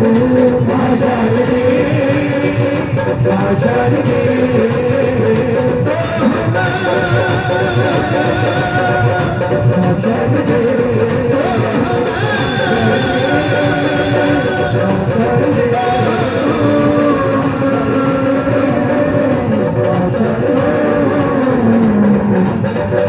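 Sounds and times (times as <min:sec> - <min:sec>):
devotional song melody: 0:00.0 - 0:23.0
hand drum accompaniment: 0:00.0 - 0:23.0.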